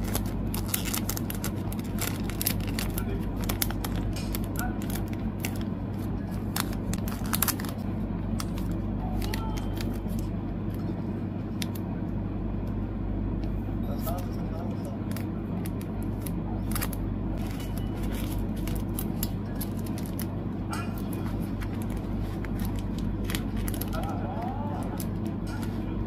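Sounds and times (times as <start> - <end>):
plastic sleeves crinkling: 0.0 - 10.8, 15.0 - 26.0
steady low hum: 0.0 - 26.0.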